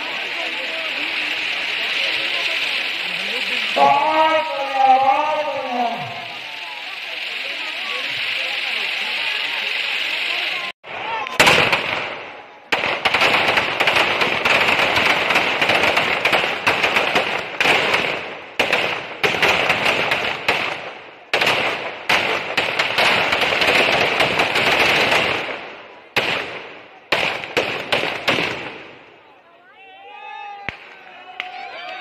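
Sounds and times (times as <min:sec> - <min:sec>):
firecrackers crackling: 0:00.0 - 0:29.4, 0:30.6 - 0:32.0.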